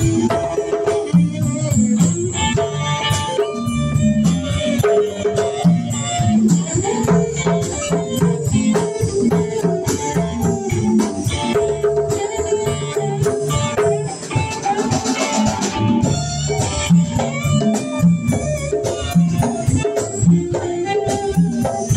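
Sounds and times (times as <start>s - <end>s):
congas: 0.0s - 21.9s
drum kit: 0.0s - 21.9s
electric guitar: 0.0s - 21.9s.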